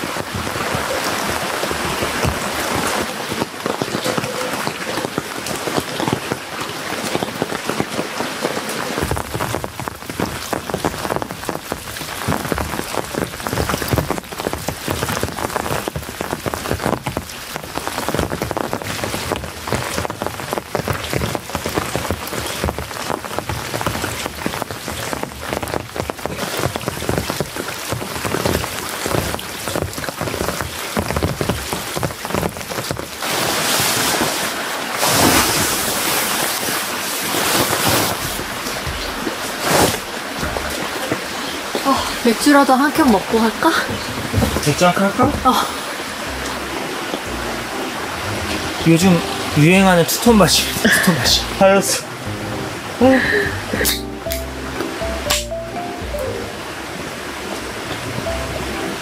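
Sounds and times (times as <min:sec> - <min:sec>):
rain drops striking a surface: 0:00.0 - 0:59.0.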